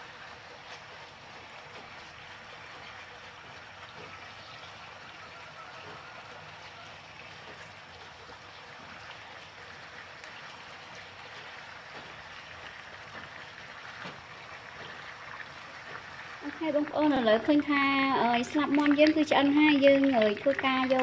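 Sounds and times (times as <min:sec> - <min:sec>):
chicken wings sizzling in a pan: 0:00.0 - 0:21.0.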